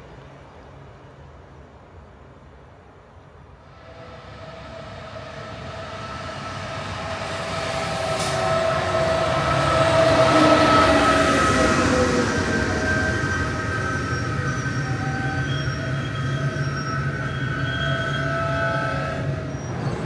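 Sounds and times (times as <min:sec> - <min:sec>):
train rumble: 0:00.0 - 0:20.0
high whining tones: 0:03.7 - 0:20.0.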